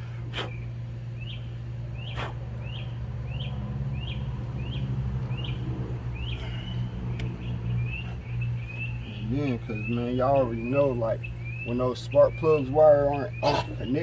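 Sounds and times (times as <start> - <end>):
steady low hum: 0.0 - 14.0
bird chirping: 0.3 - 14.0.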